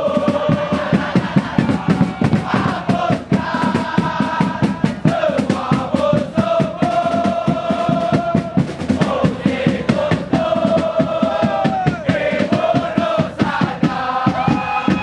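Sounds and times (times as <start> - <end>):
crowd singing a chant: 0.0 - 15.0
quick steady beat: 0.0 - 15.0.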